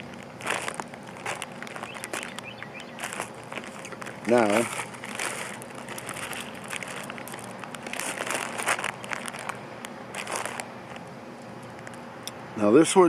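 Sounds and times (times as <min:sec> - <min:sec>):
candy bag crinkling: 0:00.0 - 0:11.1.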